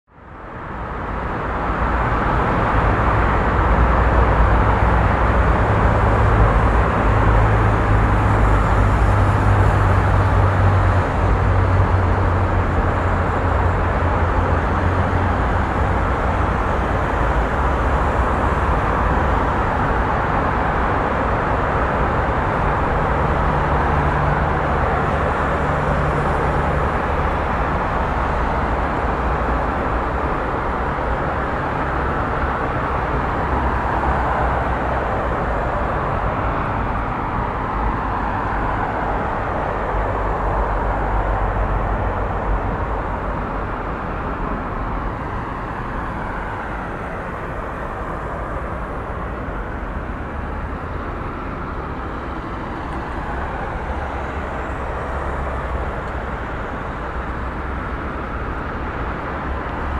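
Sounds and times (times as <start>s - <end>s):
heavy vehicle engine drone: 0.1s - 59.9s
low engine hum: 0.1s - 59.9s
passing cars: 0.1s - 59.9s.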